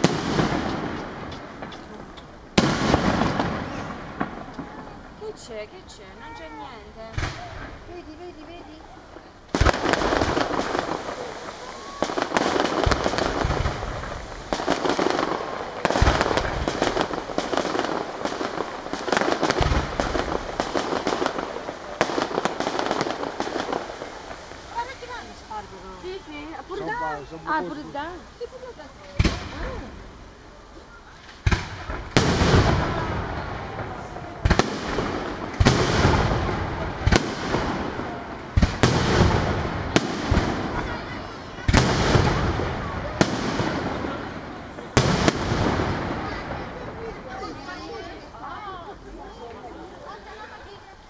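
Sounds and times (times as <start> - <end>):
firework shells booming: 0.0 - 26.2, 28.7 - 30.3, 31.2 - 48.2
fireworks crackling: 0.0 - 51.0.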